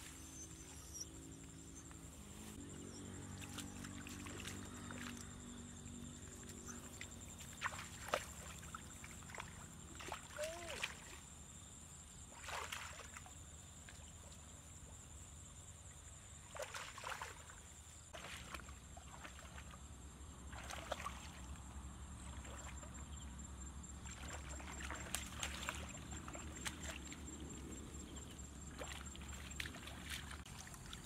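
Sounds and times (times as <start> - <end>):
splashing in shallow muddy water: 0.0 - 15.0, 15.9 - 31.0.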